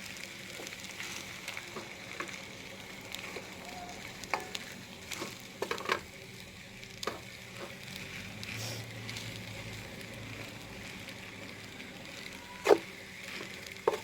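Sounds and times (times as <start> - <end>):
rice sizzling in a pan: 0.0 - 14.0.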